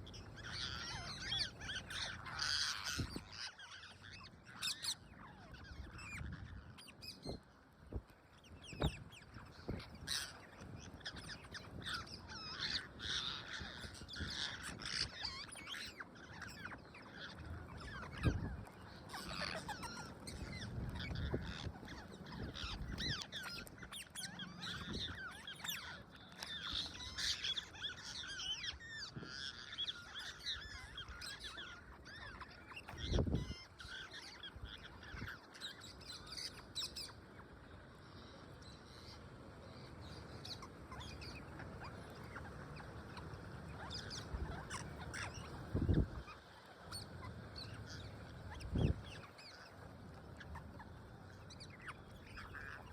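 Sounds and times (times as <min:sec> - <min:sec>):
parrots chattering and squawking: 0:00.0 - 0:07.7, 0:08.3 - 0:52.9.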